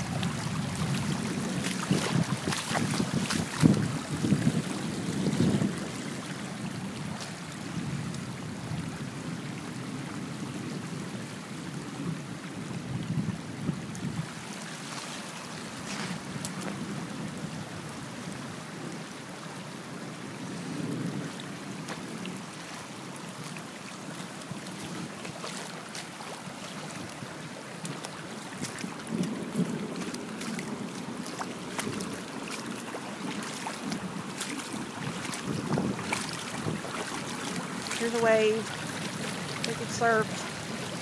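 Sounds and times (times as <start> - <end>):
rainwater rushing and splashing: 0.0 - 41.0.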